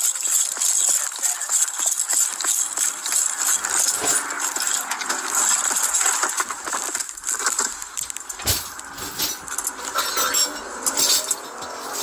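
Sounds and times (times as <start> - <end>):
gear clattering and jingling: 0.0 - 12.0.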